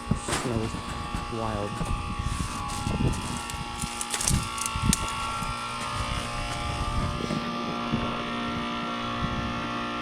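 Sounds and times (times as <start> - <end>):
heat pump humming: 0.0 - 10.0.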